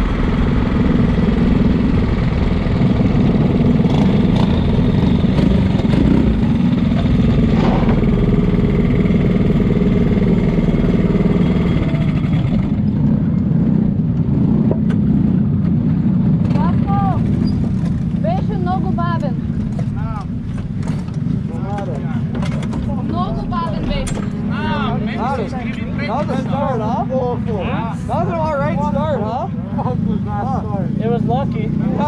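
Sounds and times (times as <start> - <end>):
kart engines idling: 0.0 - 32.0.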